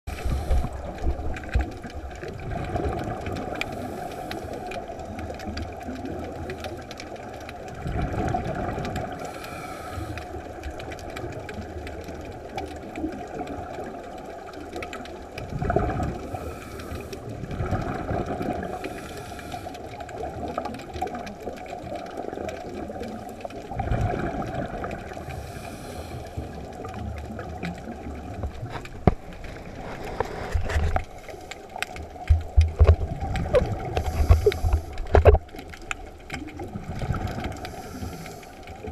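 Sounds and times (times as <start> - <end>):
muffled underwater rumble: 0.1 - 38.9.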